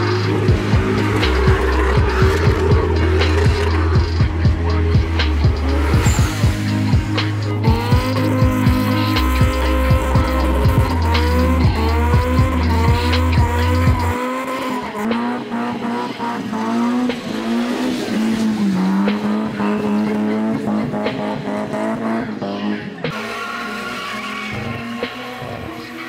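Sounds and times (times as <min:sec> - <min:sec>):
bass-heavy music beat: 0:00.0 - 0:26.0
car engine revving: 0:00.0 - 0:26.0.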